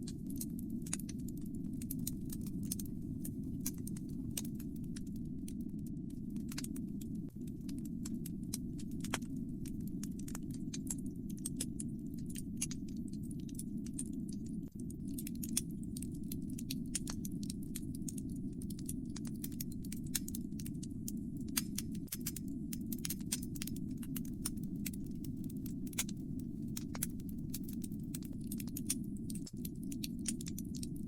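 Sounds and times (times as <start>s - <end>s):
fire crackling: 0.2s - 12.1s, 14.7s - 31.0s.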